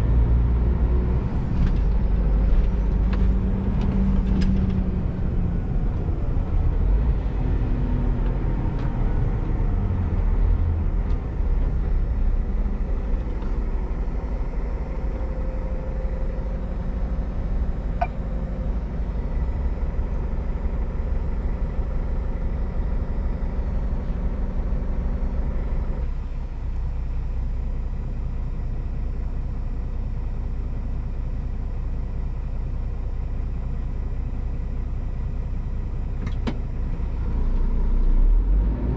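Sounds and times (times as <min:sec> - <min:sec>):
truck diesel engine running: 0:00.0 - 0:38.6.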